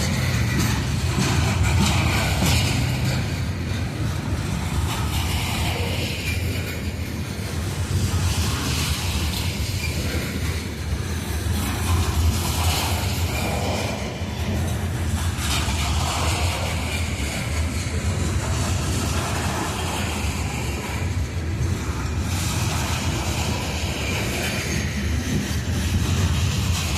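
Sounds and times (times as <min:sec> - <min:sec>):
clatter over rail joints: 0:00.0 - 0:26.9
train wheels rumbling on rails: 0:00.0 - 0:26.9.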